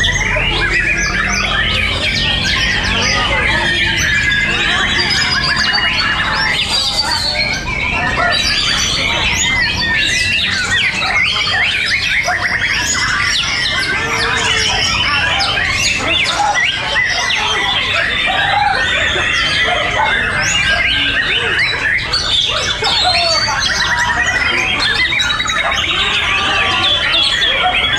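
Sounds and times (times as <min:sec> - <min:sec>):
chorus of songbirds singing: 0:00.0 - 0:27.9.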